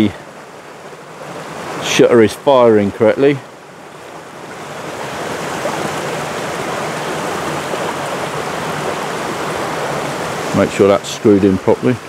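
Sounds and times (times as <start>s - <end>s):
waterfall rushing water: 0.0s - 12.0s.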